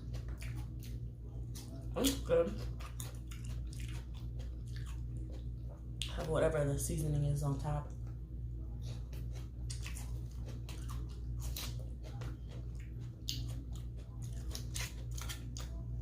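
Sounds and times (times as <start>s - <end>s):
chewing crisp salad: 0.0s - 6.2s, 8.0s - 16.0s
low hum: 0.0s - 16.0s.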